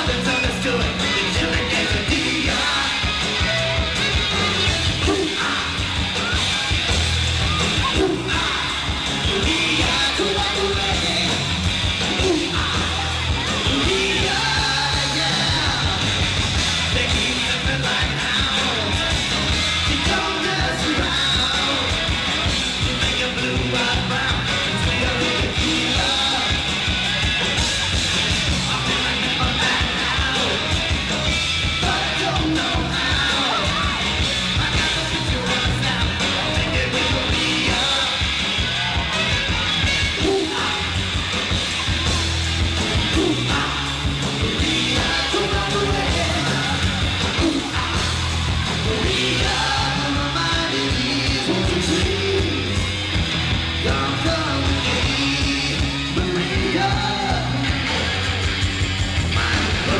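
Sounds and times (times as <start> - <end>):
live rock band playing: 0.0 - 59.9
yelled vocals: 0.0 - 59.9.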